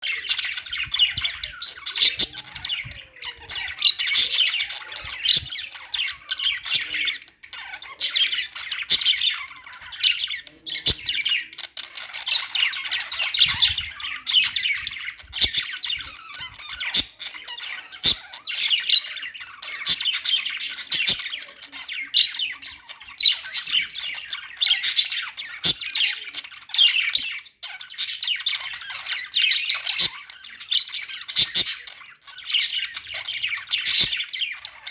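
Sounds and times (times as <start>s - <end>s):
budgerigars chattering: 0.0s - 34.9s.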